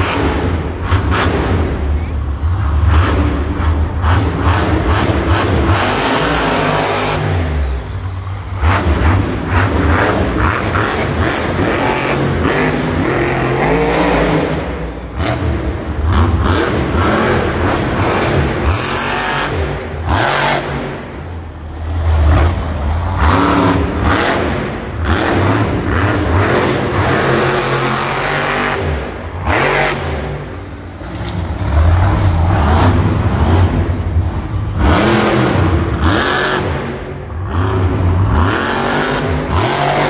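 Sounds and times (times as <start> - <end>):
truck engine revving hard: 0.0 - 40.0.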